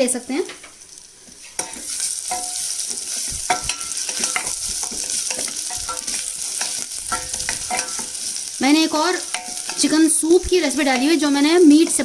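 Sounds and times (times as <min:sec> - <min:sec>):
garlic sizzling in ghee: 0:00.0 - 0:12.0
spoon clinking and scraping pan: 0:01.2 - 0:12.0.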